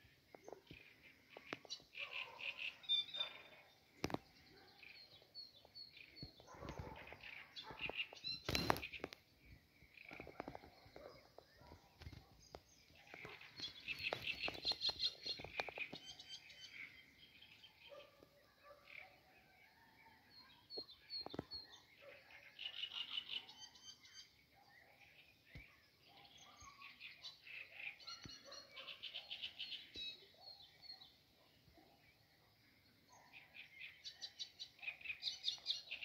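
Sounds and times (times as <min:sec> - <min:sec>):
bird chirps: 0:00.0 - 0:19.3, 0:20.0 - 0:36.0
small birds singing: 0:00.0 - 0:36.0.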